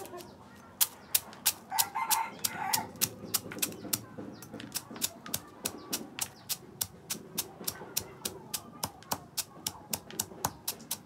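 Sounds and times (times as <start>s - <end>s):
pestle pounding noodles in mortar: 0.8s - 11.0s.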